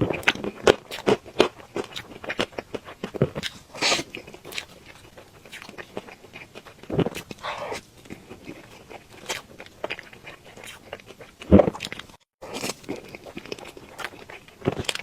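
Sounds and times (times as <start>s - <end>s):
person chewing and smacking: 0.0s - 15.0s.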